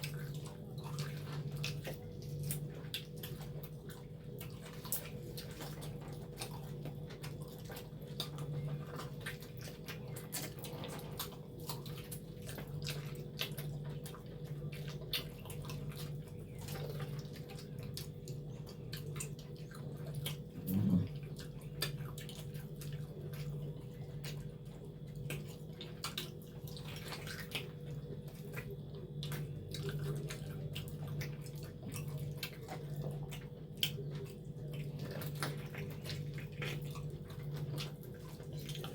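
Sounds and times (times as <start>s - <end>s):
people chewing wet mouth sounds: 0.0s - 38.9s
steady low hum: 0.0s - 38.9s.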